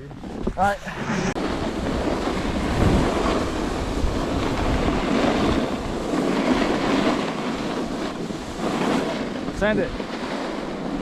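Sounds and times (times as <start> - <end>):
wind buffeting microphone: 0.0 - 11.0
snowboard scraping over snow: 0.1 - 11.0.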